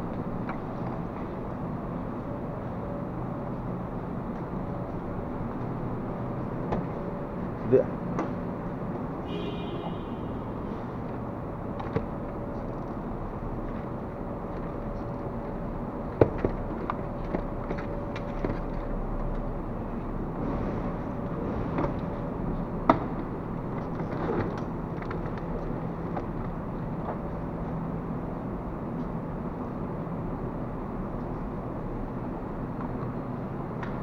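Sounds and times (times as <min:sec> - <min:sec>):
low hum of car park: 0:00.0 - 0:34.0.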